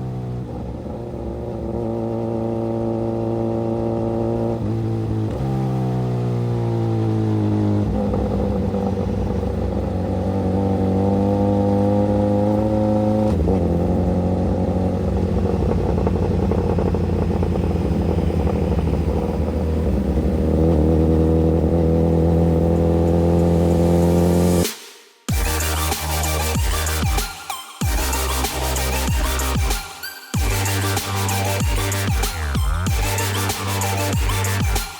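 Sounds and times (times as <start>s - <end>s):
motorcycle engine running: 0.0s - 24.7s, 25.3s - 27.2s, 27.8s - 34.9s.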